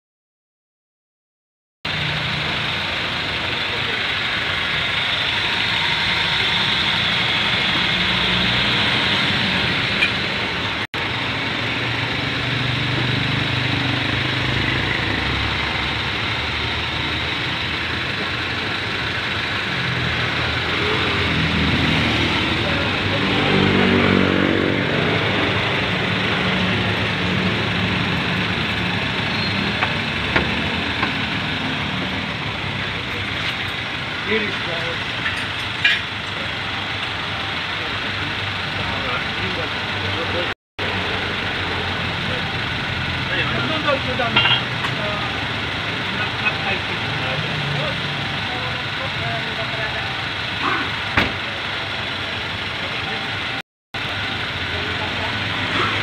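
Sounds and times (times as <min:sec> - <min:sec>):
car engine idling: 0:01.9 - 0:56.0.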